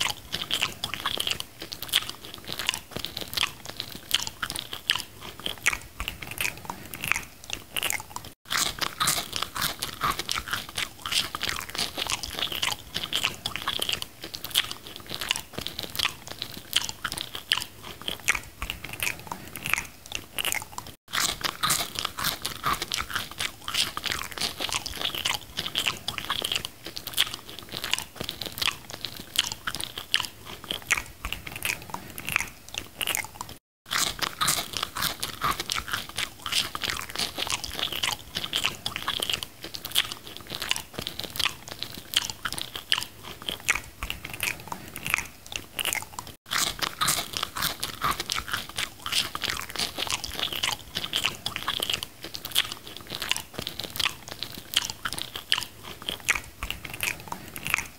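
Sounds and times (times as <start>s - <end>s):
crunching and chewing food: 0.0s - 57.9s.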